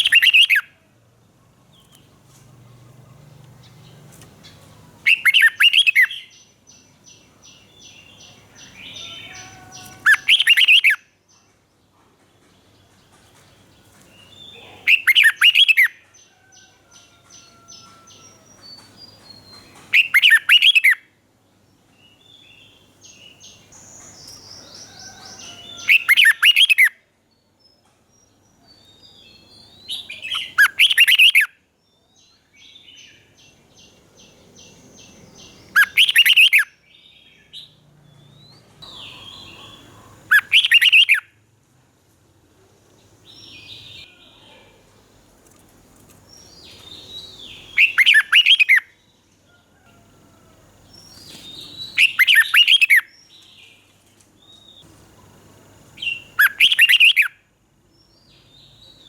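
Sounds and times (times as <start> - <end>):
soft bird chirps and calls: 0.0 - 11.8, 12.5 - 41.4, 43.0 - 55.4, 56.0 - 59.0
bird song phrases: 0.0 - 41.3, 42.9 - 59.0.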